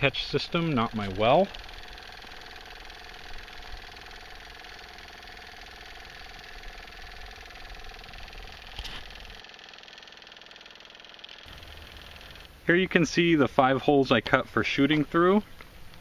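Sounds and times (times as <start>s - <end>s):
water pump humming: 0.0s - 13.6s.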